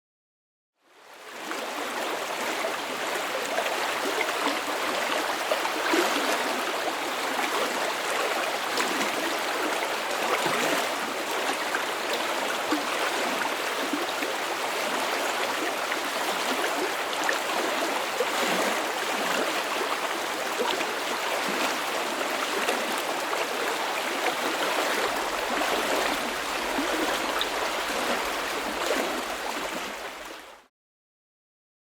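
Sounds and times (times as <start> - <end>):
river water rushing over stones: 1.4 - 30.6.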